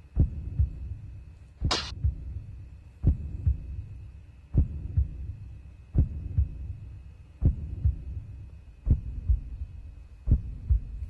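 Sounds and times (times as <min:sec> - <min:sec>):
faint high whine: 0:00.0 - 0:11.0
heartbeat thumps: 0:00.0 - 0:11.0
low hum: 0:00.0 - 0:11.0.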